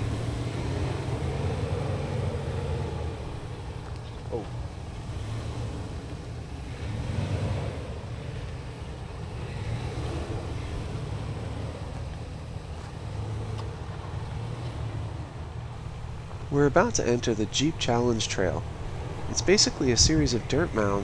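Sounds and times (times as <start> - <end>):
engine running low rumble: 0.0 - 21.0.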